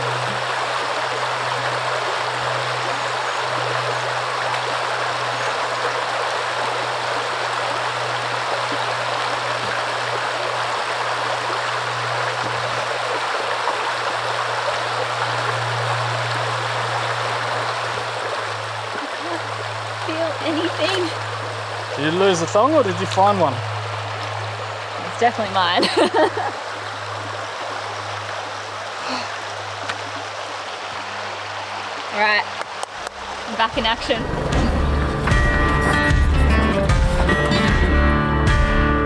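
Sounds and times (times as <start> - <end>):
steady low hum: 0.0 - 32.1
river water rushing: 0.0 - 39.0.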